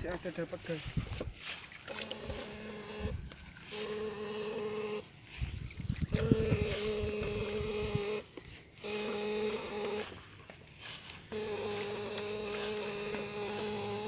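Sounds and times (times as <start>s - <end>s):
electric fish shocker buzzing: 0.0s - 14.0s.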